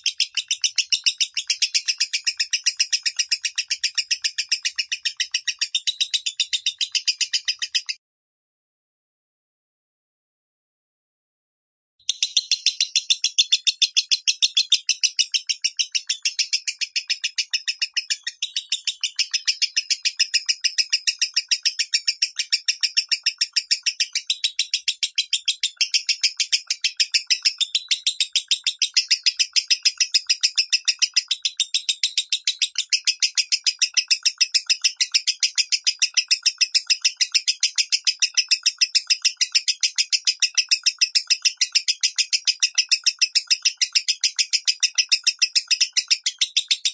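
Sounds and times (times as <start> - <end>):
lovebird chattering song: 0.0 - 8.0, 12.1 - 46.9.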